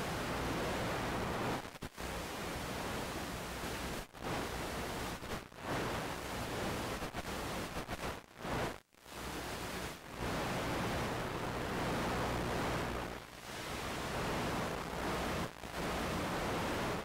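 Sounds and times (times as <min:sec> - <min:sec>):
static hiss from video receiver: 0:00.0 - 0:17.0.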